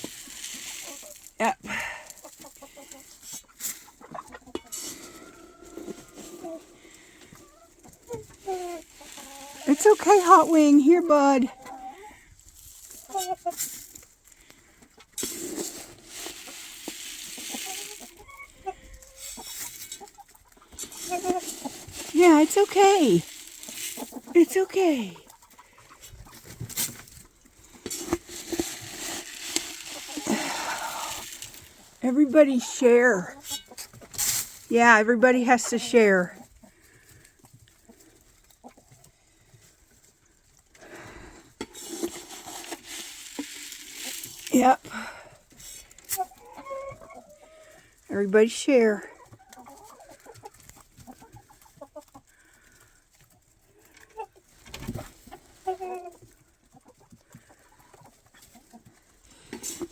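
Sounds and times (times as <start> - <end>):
rustling: 0.0 - 48.1
chickens clucking: 0.0 - 59.9.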